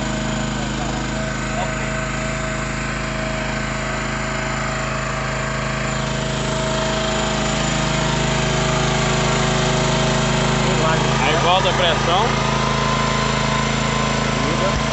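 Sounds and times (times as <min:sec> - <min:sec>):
small engine running steadily: 0:00.0 - 0:14.9.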